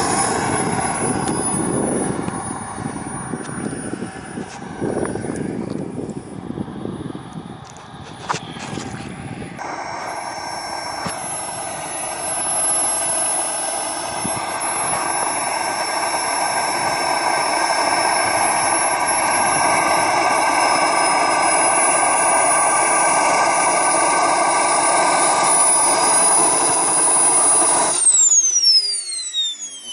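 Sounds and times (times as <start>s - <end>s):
model jet turbine whine: 0.0s - 29.9s.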